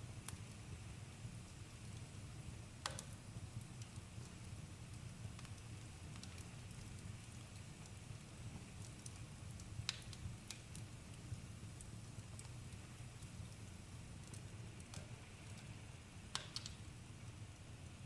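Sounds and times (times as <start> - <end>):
campfire crackling and popping: 1.9 - 15.7, 16.3 - 16.9.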